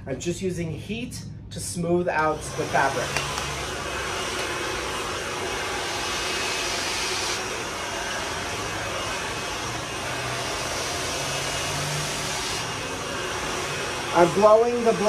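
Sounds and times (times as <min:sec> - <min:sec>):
hair dryer blowing: 0:02.1 - 0:15.0.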